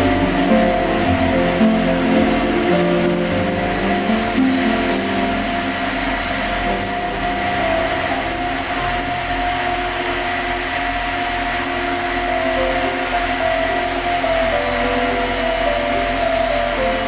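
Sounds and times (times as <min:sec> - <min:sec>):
arc welding hiss and crackle: 0:00.0 - 0:17.0.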